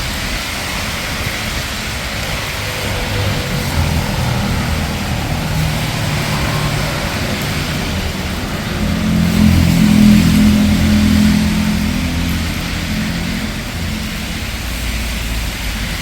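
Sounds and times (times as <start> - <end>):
car engine low hum: 0.0 - 16.0
steady rain: 0.0 - 16.0.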